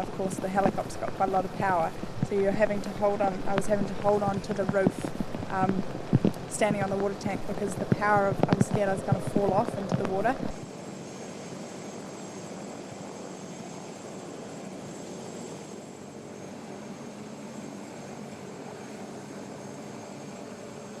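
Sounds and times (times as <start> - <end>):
faint high whine: 0.0 - 21.0
helicopter rotor and engine drone: 0.0 - 21.0.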